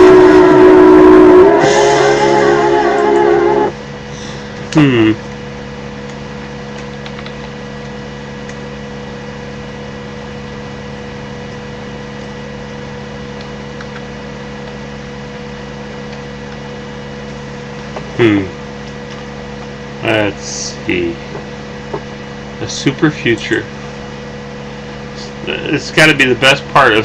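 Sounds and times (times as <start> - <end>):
steady multi-pitch hum: 0.0 - 27.0.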